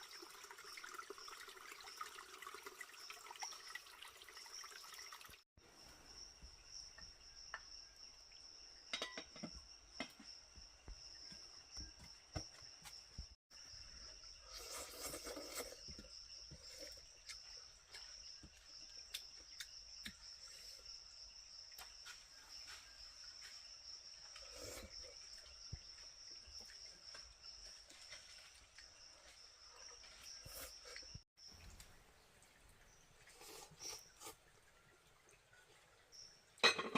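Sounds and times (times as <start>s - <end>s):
insects chirring: 0.0s - 32.0s
forest background: 0.0s - 36.8s.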